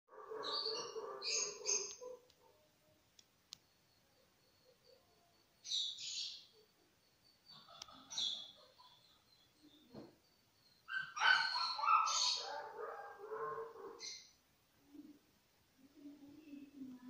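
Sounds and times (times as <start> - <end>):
lower steady bird call: 0.2 - 15.3.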